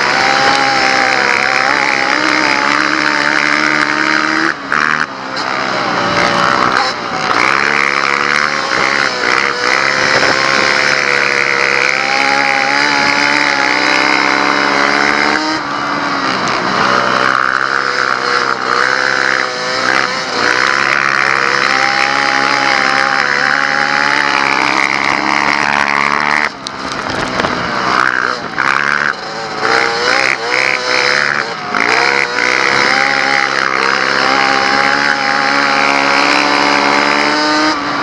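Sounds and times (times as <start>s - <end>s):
quad engine revving: 0.0s - 38.0s.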